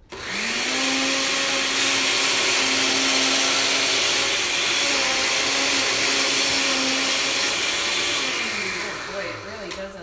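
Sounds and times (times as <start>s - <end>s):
blender motor straining: 0.0s - 10.0s.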